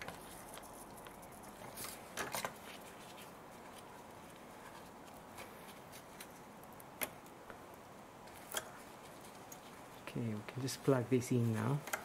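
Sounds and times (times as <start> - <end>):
faint steady background noise: 0.0 - 12.0.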